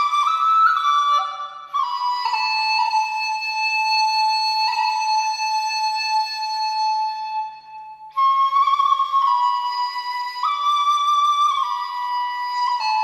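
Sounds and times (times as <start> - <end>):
slow woodwind melody: 0.0 - 13.0.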